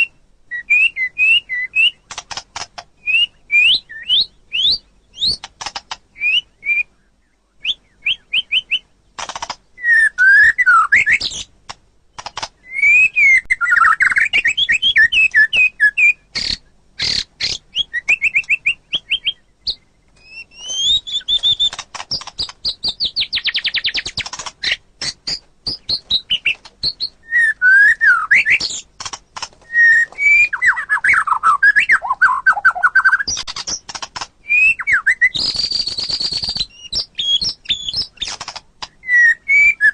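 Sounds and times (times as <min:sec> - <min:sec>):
songbird singing fluty whistles: 0:00.0 - 0:02.2, 0:03.0 - 0:05.5, 0:06.1 - 0:08.9, 0:09.8 - 0:11.5, 0:12.2 - 0:28.9, 0:29.6 - 0:33.8, 0:34.4 - 0:39.9.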